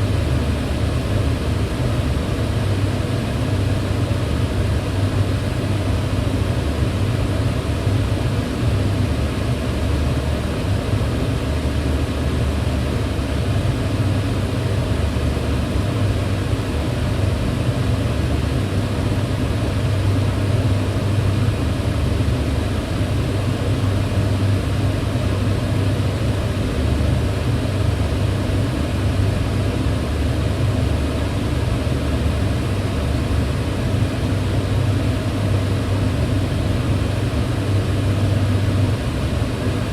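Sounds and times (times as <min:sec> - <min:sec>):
range hood fan hum: 0:00.0 - 0:39.9.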